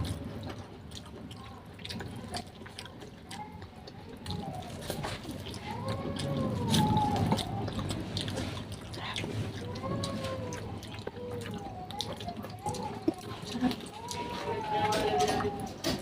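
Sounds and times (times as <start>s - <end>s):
wet eating mouth sounds: 0.0s - 16.0s.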